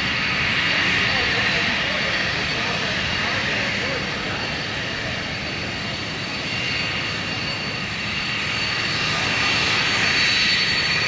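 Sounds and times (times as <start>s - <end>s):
jet engines rumbling with whine: 0.0s - 11.0s.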